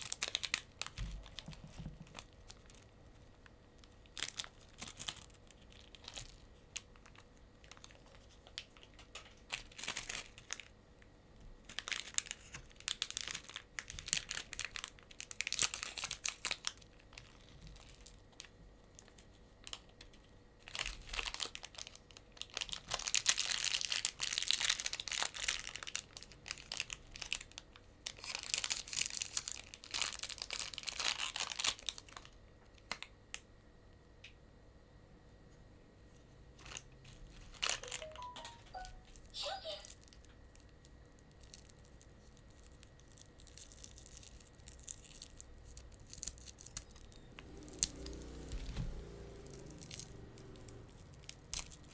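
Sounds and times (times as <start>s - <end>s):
candy wrappers crinkling and tearing: 0.0s - 33.5s, 36.6s - 51.9s.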